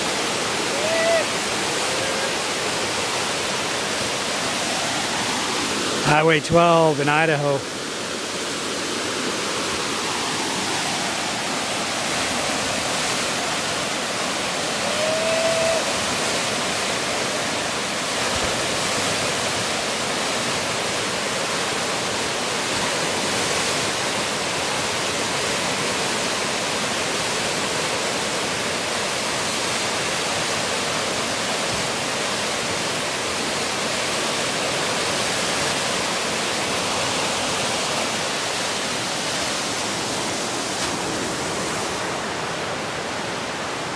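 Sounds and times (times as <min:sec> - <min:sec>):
whitewater rapids roaring: 0:00.0 - 0:43.9.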